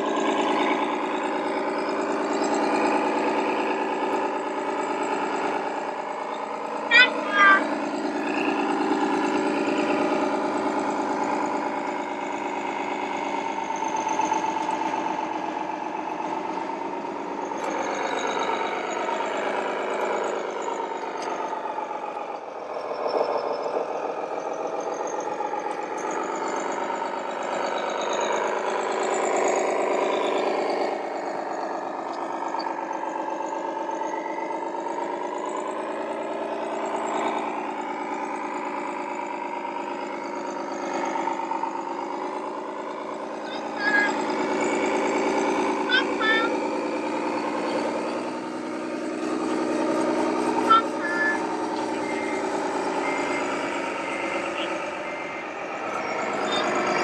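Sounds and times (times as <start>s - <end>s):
simulated diesel engine sound: 0.0s - 57.0s.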